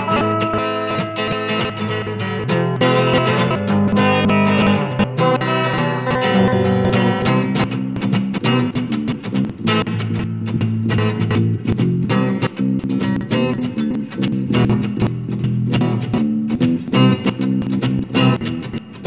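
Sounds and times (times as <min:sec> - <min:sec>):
plucked and strummed guitar music: 0:00.0 - 0:19.0.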